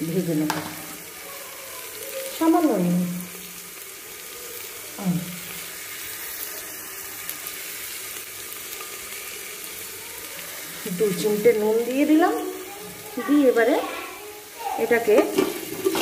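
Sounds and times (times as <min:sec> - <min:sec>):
rice sizzling in ghee: 0:00.0 - 0:16.0.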